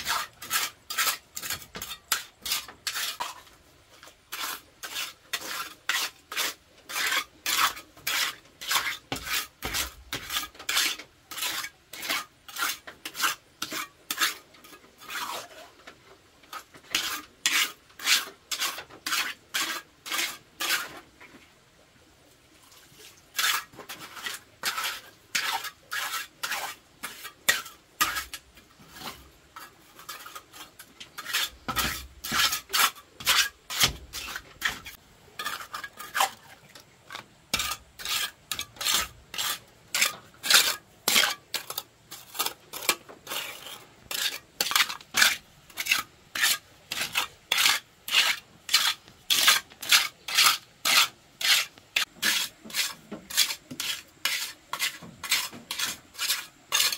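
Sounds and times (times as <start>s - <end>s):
trowel scraping wet cement: 0.0s - 21.1s, 23.3s - 56.9s.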